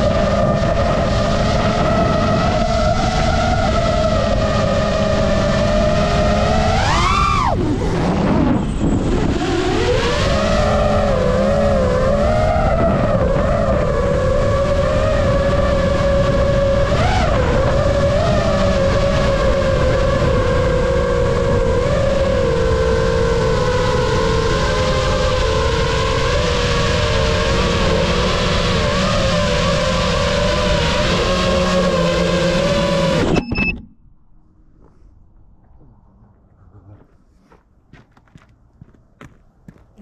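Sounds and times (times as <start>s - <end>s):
drone motors whining: 0.0s - 37.6s.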